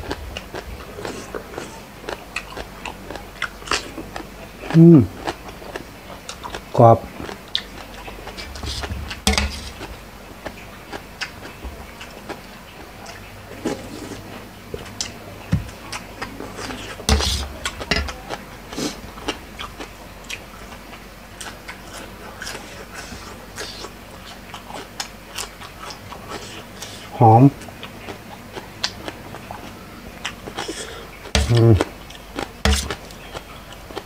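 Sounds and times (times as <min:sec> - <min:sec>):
chewing crunchy food: 0:00.0 - 0:34.0.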